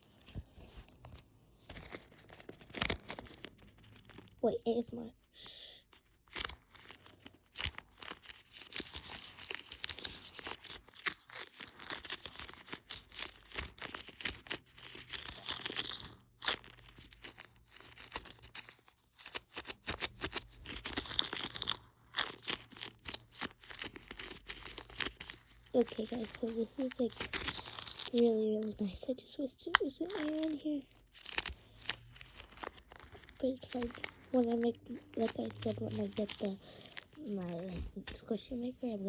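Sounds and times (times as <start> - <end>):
squishy crinkling and crackling: 1.6 - 39.0.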